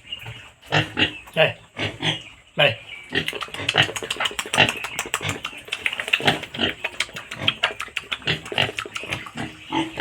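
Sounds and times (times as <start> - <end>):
pigs grunting: 0.7 - 10.0.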